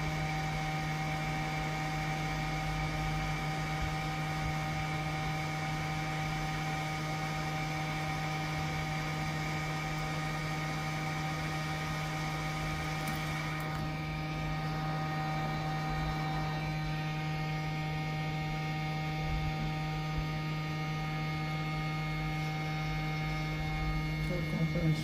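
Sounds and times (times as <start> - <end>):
electrical hum: 0.0 - 25.0
high electrical whine: 0.0 - 25.0.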